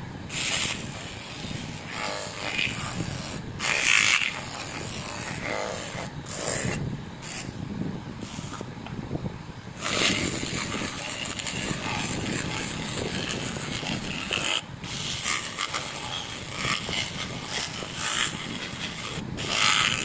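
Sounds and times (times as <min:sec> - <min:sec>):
abrasive rasping scrape on metal: 0:00.3 - 0:07.6, 0:08.2 - 0:08.7, 0:09.8 - 0:20.0.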